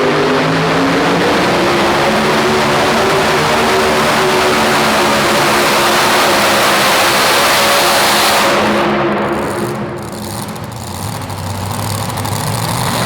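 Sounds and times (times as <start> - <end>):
truck engine running flat out: 0.0 - 13.0.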